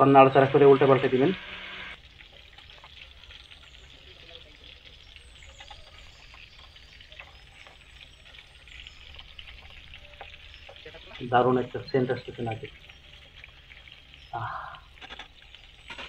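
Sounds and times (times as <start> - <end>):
chicken frying in oil: 0.0 - 16.0
oil popping and crackling: 0.0 - 16.0.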